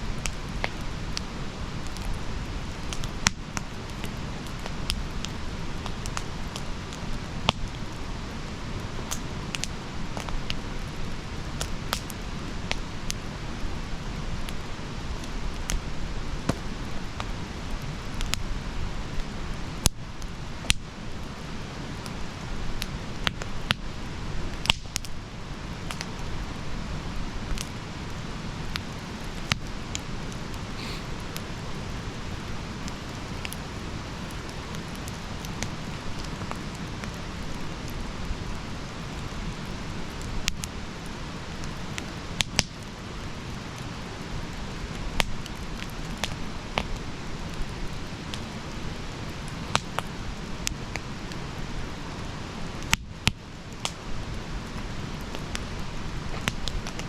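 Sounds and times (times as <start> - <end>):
burning wood crackling and popping: 0.0 - 57.0
flames rushing: 0.0 - 57.0.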